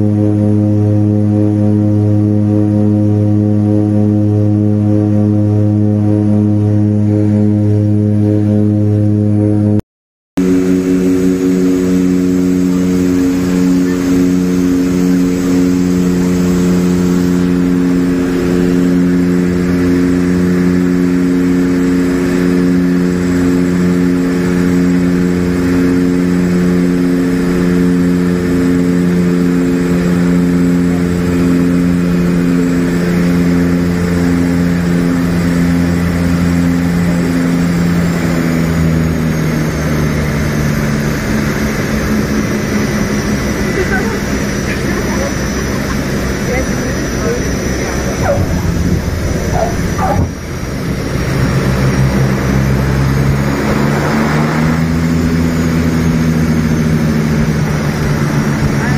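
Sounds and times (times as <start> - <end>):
turboprop engines droning: 0.0 - 9.8, 10.4 - 58.9.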